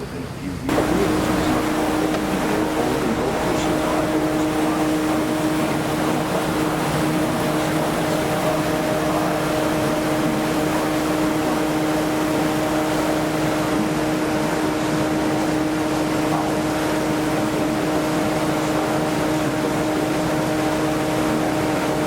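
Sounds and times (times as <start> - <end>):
boat engine humming: 0.0 - 22.0
water noise: 0.0 - 22.0.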